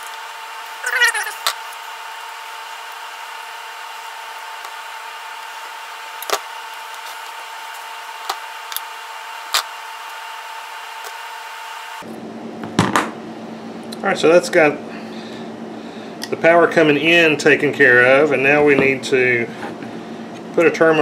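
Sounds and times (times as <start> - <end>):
faint high hum: 0.0 - 11.4, 12.0 - 21.0.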